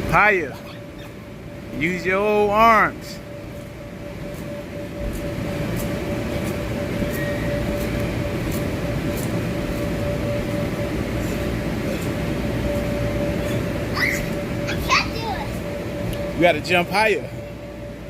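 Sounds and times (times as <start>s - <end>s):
air blower running: 0.0s - 18.0s.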